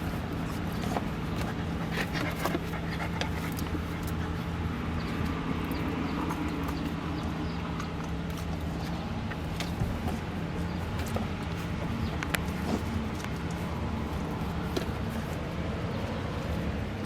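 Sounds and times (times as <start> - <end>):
puppy paws clicking and tapping: 0.0 - 17.0.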